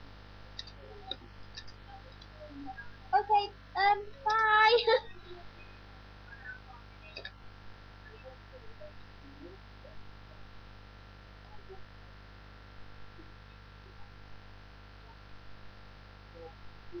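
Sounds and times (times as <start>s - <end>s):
electrical mains hum and hiss: 0.0s - 17.0s.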